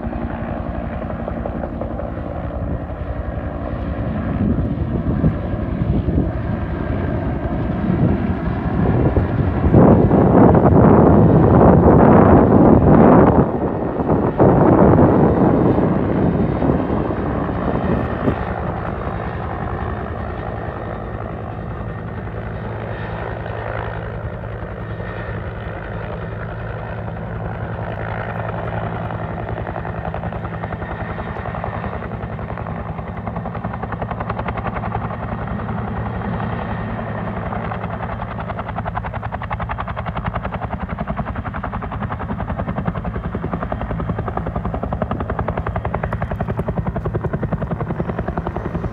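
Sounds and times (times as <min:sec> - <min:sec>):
helicopter rotor beating: 0:00.0 - 0:48.9
helicopter turbine: 0:00.0 - 0:48.9.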